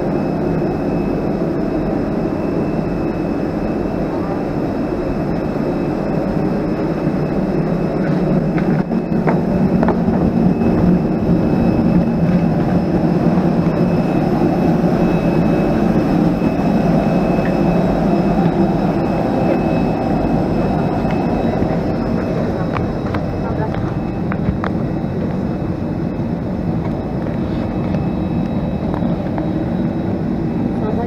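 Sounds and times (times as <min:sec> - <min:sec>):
high whine: 0:00.0 - 0:31.0
jet airliner engine drone: 0:00.0 - 0:31.0.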